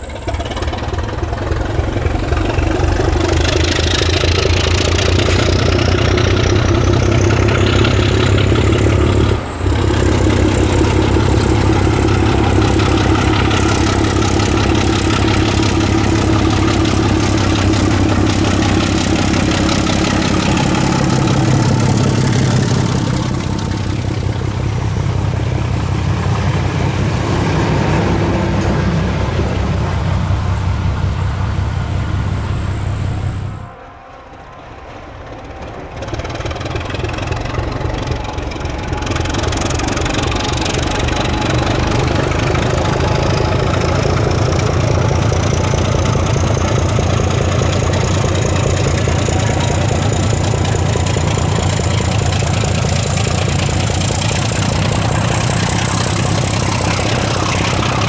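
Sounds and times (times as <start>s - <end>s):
high whine: 0.0s - 58.0s
unmuffled diesel locomotive engine: 0.0s - 58.0s.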